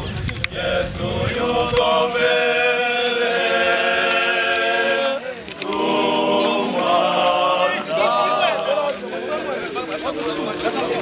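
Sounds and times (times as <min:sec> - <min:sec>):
group of voices singing: 0:00.3 - 0:11.0.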